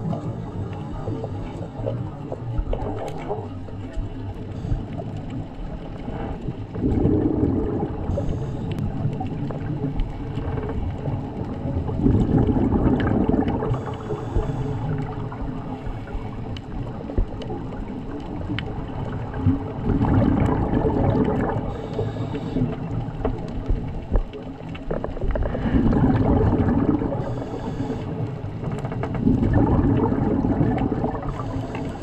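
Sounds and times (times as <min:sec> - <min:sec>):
low underwater rumble: 0:00.0 - 0:32.0
regulator bubbles gurgling: 0:00.0 - 0:32.0.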